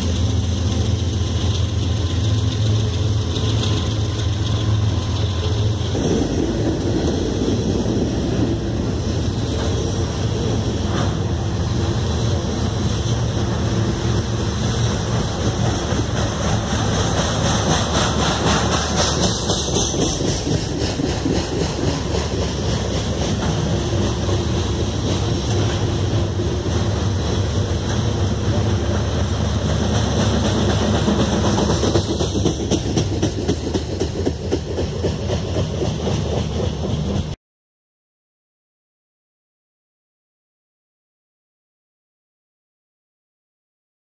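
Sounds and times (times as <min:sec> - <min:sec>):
train wheels clattering over joints: 0:00.0 - 0:37.4.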